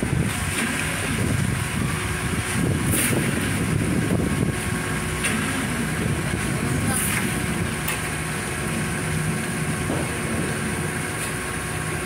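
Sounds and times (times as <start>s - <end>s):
engine rumble: 0.0s - 12.0s.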